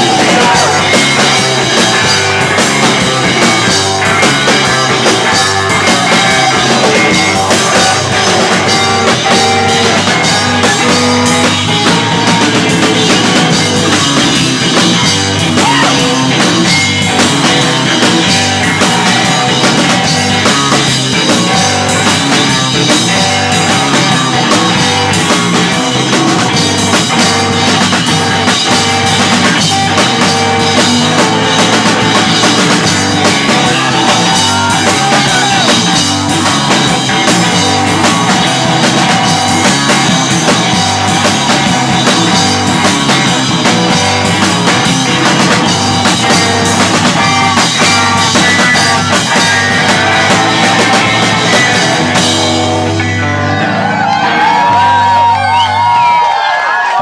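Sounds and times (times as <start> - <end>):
drum kit and cymbals: 0.0 - 53.2
electric guitar: 0.0 - 57.0.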